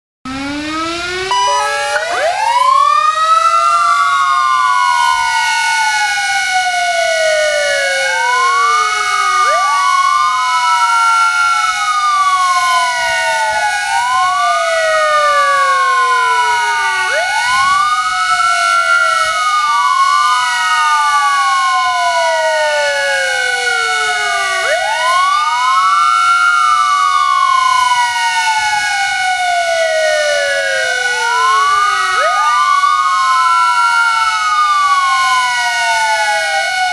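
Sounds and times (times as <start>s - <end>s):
fire engine sirens wailing: 0.3s - 36.9s
steady siren howl: 0.3s - 36.9s.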